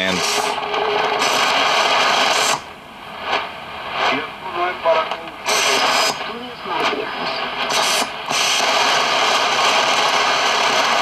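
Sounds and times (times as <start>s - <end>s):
faint radio station warbling: 0.0s - 2.6s, 3.2s - 9.6s
radio static hiss: 0.0s - 11.0s.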